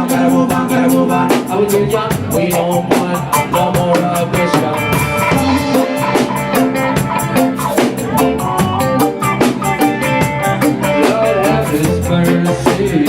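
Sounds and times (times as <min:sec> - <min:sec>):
reggae band playing: 0:00.0 - 0:13.0.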